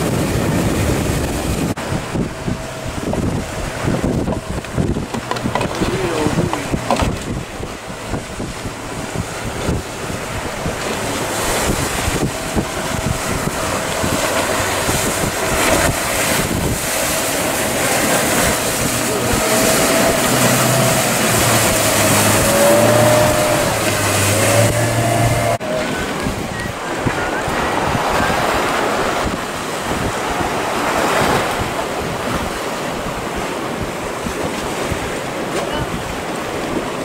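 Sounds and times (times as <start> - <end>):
breaking waves: 0.0 - 37.0
outboard motor whining: 0.0 - 37.0
wind on microphone: 0.0 - 37.0.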